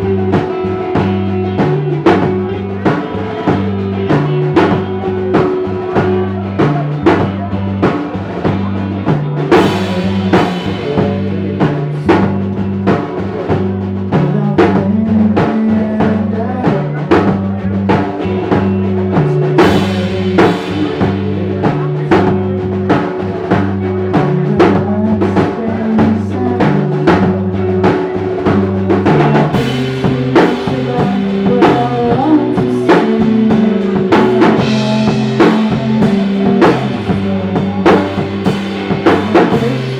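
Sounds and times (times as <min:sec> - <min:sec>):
bass guitar line: 0:00.0 - 0:39.9
drum kit beat: 0:00.0 - 0:39.9
sustained electric guitars: 0:00.0 - 0:39.9.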